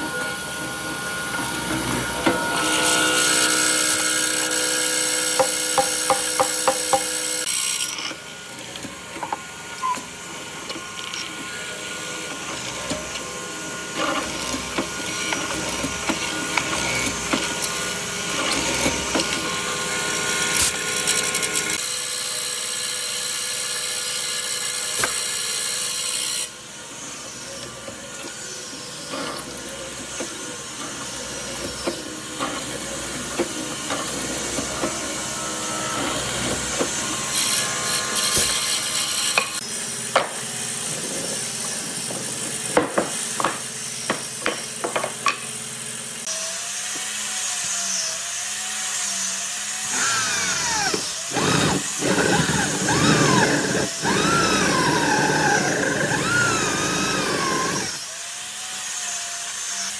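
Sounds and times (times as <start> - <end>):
power tool running: 0.0 - 59.9.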